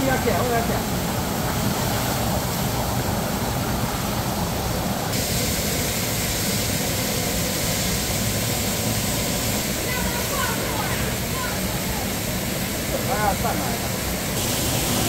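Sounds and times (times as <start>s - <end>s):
water rushing from pool spout: 0.0s - 15.0s.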